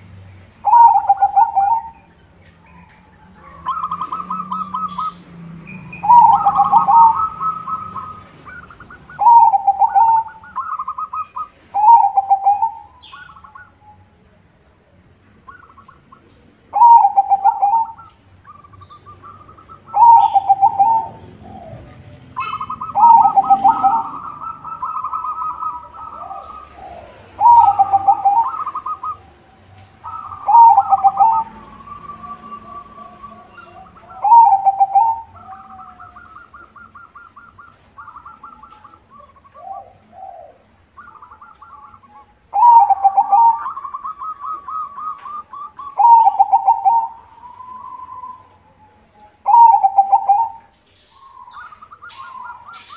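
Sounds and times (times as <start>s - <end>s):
dove cooing: 0.6s - 14.1s, 15.5s - 52.9s.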